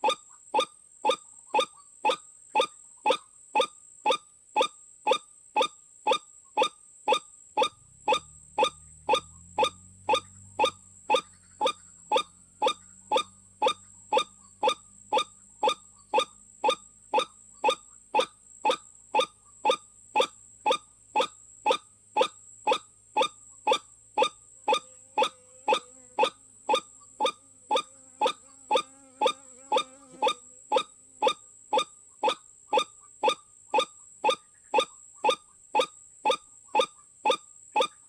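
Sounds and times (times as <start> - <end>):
waterhen calling: 0.0 - 38.0.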